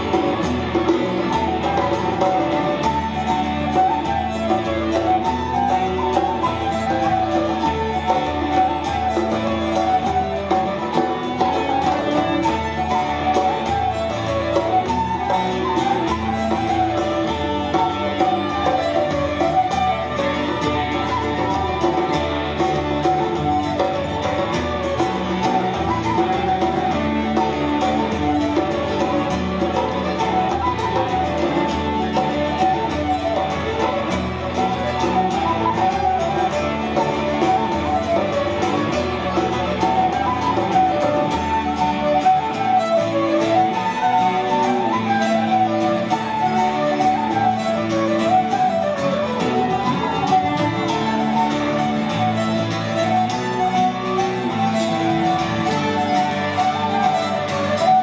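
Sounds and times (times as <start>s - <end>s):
bass guitar: 0.0s - 58.0s
fiddle: 0.0s - 58.0s
flute: 0.0s - 58.0s
folk band playing dance tune: 0.0s - 58.0s
strummed acoustic guitar: 0.0s - 58.0s.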